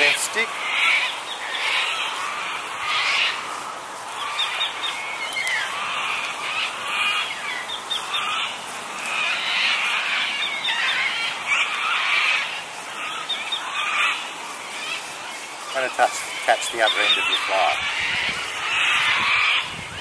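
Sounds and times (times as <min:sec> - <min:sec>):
chorus of birds calling: 0:00.0 - 0:20.0.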